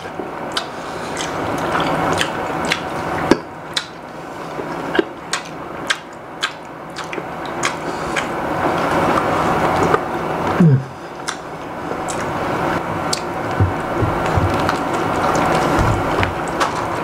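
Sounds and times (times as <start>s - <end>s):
chewing and mouth smacks: 0.5s - 10.0s, 11.2s - 12.4s, 13.1s - 16.9s.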